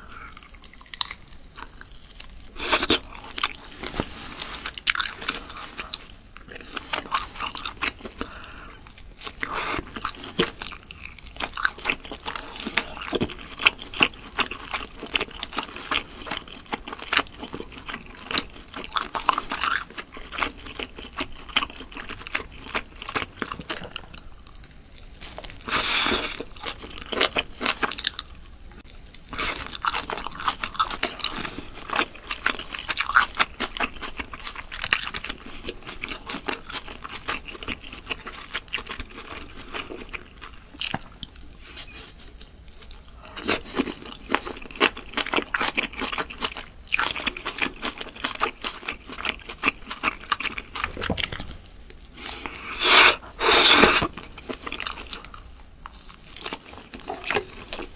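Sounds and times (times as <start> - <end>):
close biting and chewing: 0.0 - 57.9.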